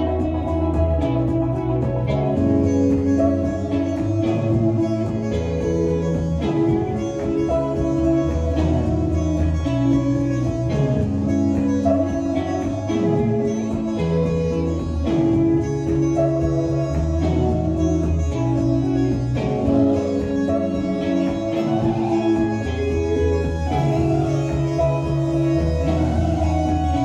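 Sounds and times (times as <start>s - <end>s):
electric guitar: 0.0s - 27.0s
hollow-body guitar: 0.0s - 27.0s
sustained low bass notes: 0.0s - 27.0s.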